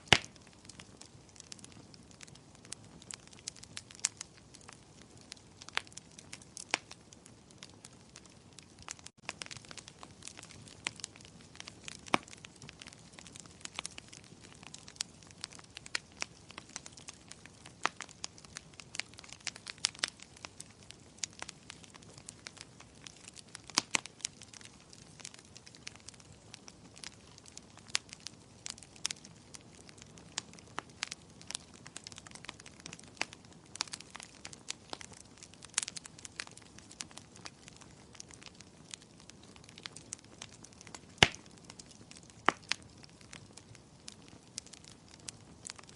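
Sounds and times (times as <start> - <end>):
soft hiss of flames: 0.0 - 45.9
wood fire crackling: 0.0 - 45.9.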